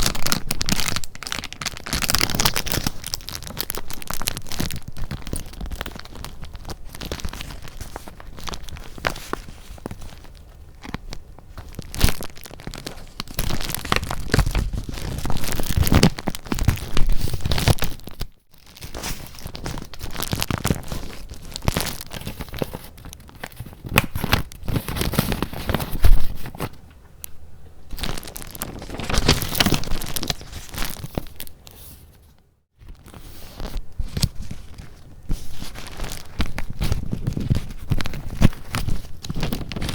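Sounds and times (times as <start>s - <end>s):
paper rustling and crinkling: 0.0s - 26.9s, 27.9s - 39.9s.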